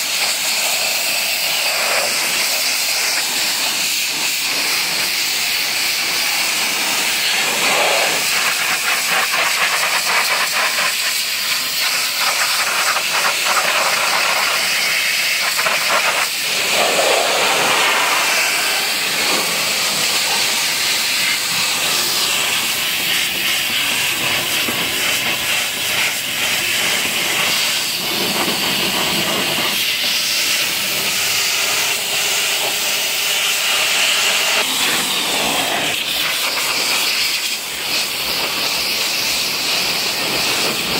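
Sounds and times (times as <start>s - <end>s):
pressure washer spraying water: 0.0s - 40.9s.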